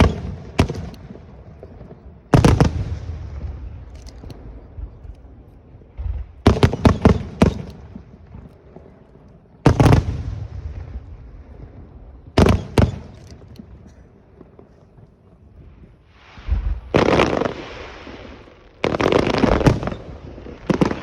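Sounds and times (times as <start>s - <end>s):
big fireworks boom rumbling: 0.0s - 21.0s
fireworks bursting with sharp bangs: 0.0s - 21.0s.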